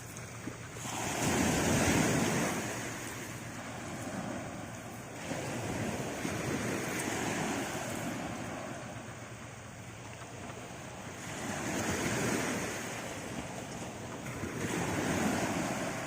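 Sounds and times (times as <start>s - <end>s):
sea waves washing on shore: 0.0s - 16.0s
wind buffeting microphone: 0.0s - 16.0s.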